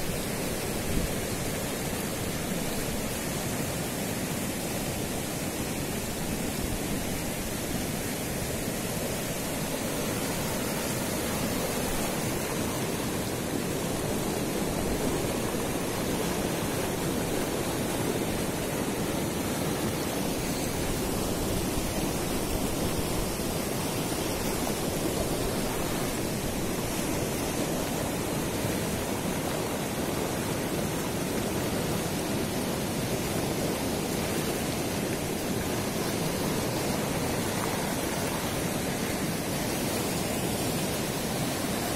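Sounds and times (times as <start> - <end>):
river rushing over rocks: 0.0 - 41.9.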